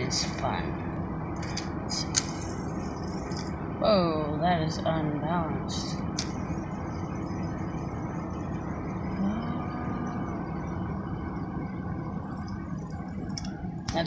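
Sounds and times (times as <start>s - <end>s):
low hum inside car: 0.0s - 14.0s.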